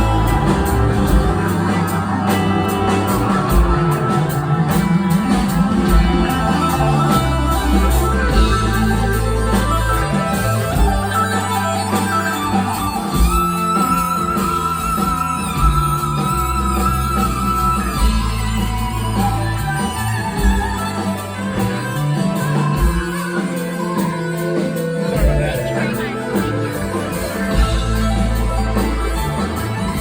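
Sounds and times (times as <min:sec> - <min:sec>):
rock band playing instrumental: 0:00.0 - 0:30.0.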